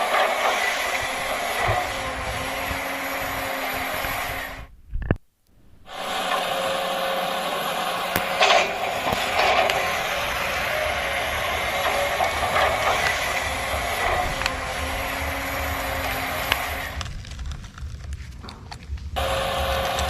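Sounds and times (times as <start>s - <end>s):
toy electric motor whirring: 0.0s - 4.7s, 5.9s - 18.0s.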